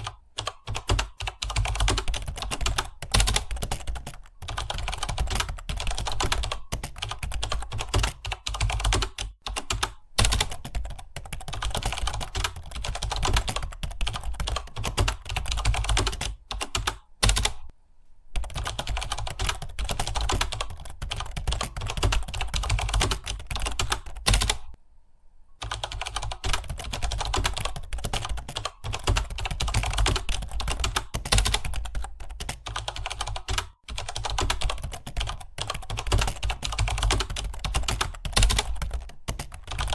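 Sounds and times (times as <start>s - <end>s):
typing on computer keyboard: 0.0s - 17.7s, 18.4s - 24.8s, 25.6s - 39.9s.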